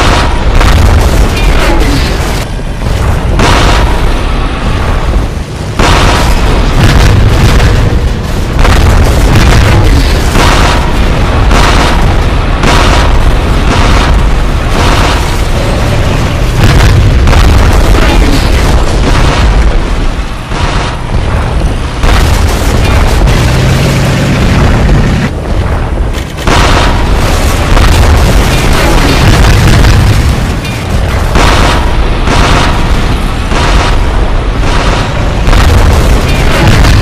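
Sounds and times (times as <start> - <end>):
shell explosions: 0.0 - 25.1, 25.7 - 37.0
heavy low rumble: 0.0 - 37.0
tank cannon fire: 0.0 - 37.0.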